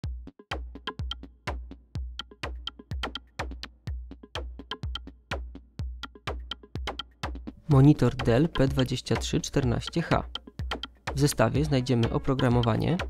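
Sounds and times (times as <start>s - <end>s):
electronic music with drum-machine beat: 0.0s - 13.0s.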